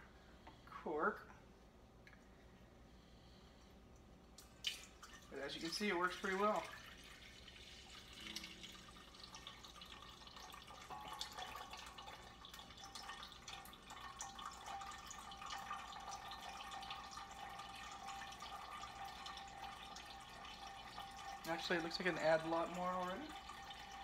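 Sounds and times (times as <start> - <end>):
juice trickling into a metal pot: 3.8 - 24.0.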